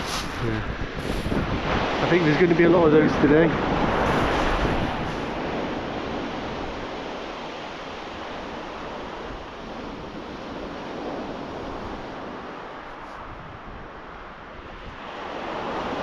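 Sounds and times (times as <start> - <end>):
waves breaking on shingle beach: 0.0 - 16.0
wind on microphone: 0.0 - 16.0.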